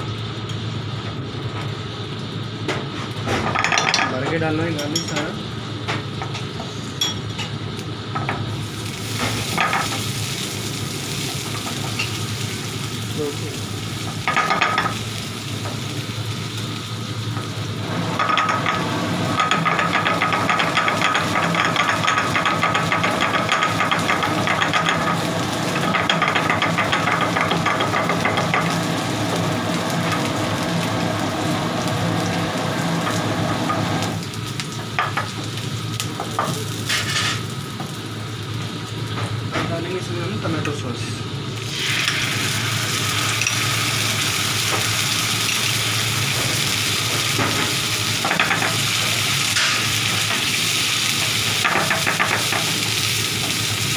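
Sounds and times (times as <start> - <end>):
garlic sizzling in oil: 5.4 - 39.5, 41.3 - 53.9.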